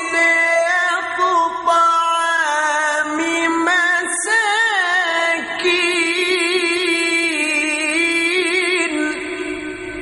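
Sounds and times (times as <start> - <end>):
man reciting melodically: 0.0 - 10.0.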